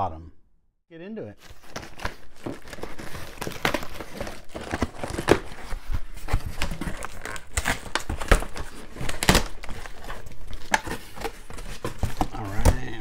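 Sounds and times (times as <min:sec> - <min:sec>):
packing tape peeling and tearing: 0:01.4 - 0:12.6
cardboard flaps crinkling: 0:01.4 - 0:13.0.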